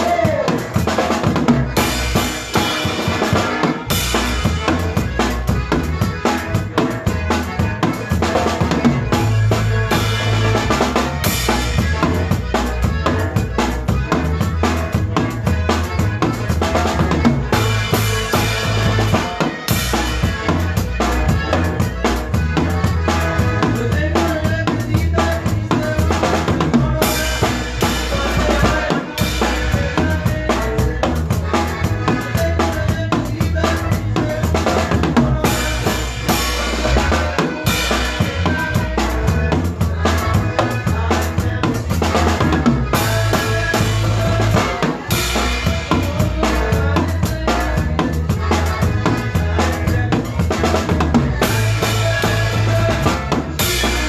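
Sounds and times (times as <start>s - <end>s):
drum kit steady beat: 0.0s - 54.0s
live band playing: 0.0s - 54.0s
repeating bass line: 0.0s - 54.0s.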